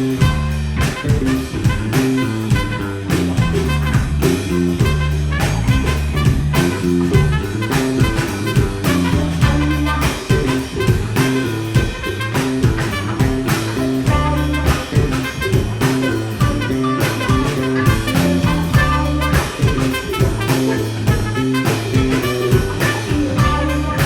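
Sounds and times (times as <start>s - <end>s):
funk band playing: 0.0s - 24.0s
horn solo: 0.0s - 24.0s.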